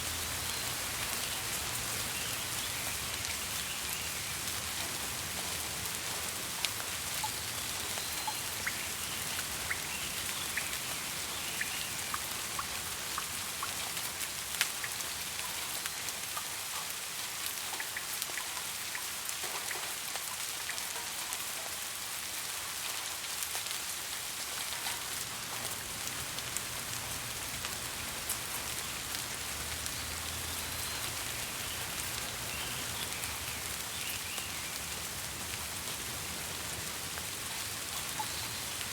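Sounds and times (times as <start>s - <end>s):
raindrops ticking: 0.0s - 21.7s, 24.5s - 38.9s
steady rain hissing: 0.0s - 38.9s.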